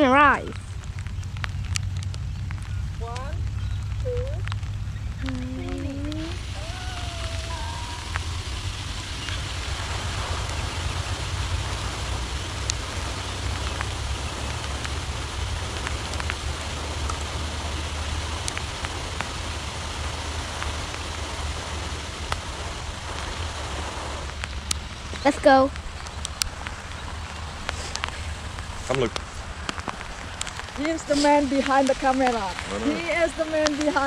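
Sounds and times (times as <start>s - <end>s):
sharp ticks: 0.0s - 21.4s, 24.2s - 34.0s
fountain spraying: 0.0s - 34.0s
low rumble: 0.0s - 34.0s
rain on a pond: 0.0s - 34.0s.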